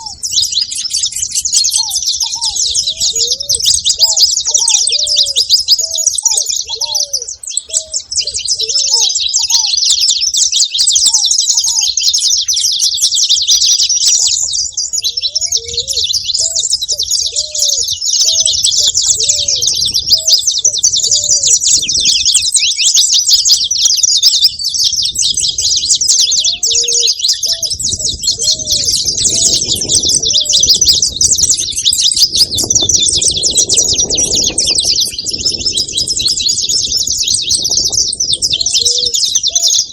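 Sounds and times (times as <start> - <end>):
finch singing trilled notes: 0.0 - 39.9.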